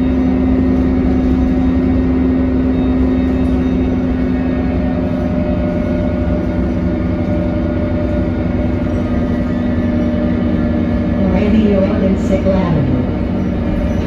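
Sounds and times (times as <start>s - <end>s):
bus engine drone with whine: 0.0s - 14.0s.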